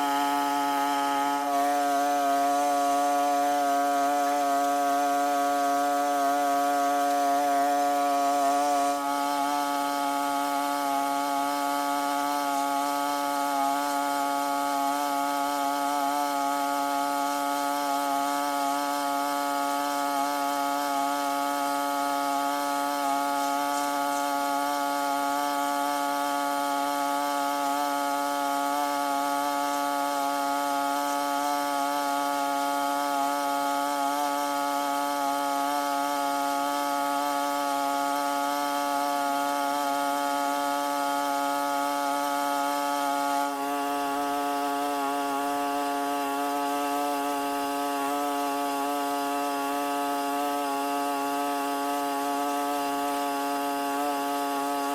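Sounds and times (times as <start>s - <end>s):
small engine running at high speed: 0.0s - 54.9s.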